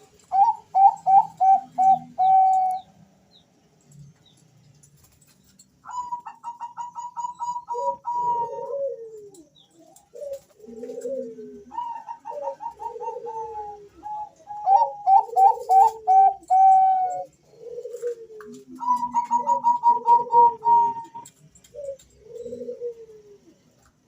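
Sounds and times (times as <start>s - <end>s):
doves cooing: 0.0s - 2.9s, 5.8s - 24.0s.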